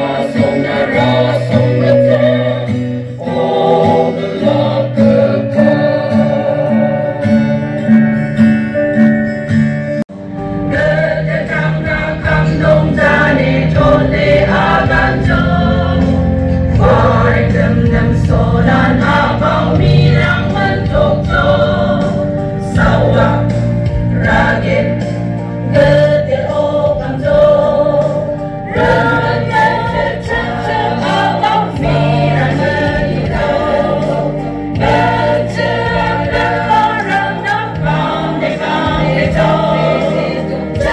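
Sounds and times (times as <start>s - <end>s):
congregation singing a hymn: 0.0s - 8.2s, 10.2s - 40.9s
instrumental accompaniment: 0.0s - 40.9s.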